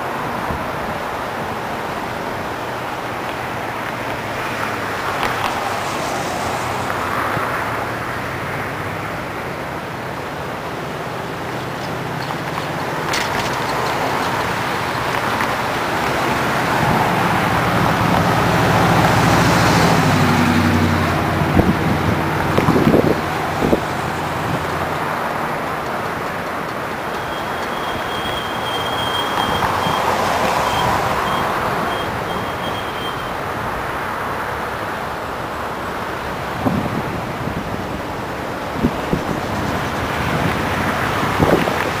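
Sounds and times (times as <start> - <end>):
heavy vehicle engine rumble: 0.0 - 42.0
road traffic passing: 0.0 - 42.0.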